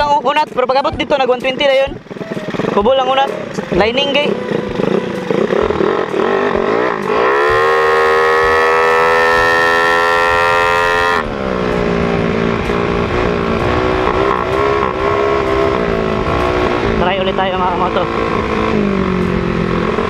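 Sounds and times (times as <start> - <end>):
scooter engine revving: 0.8 - 20.0.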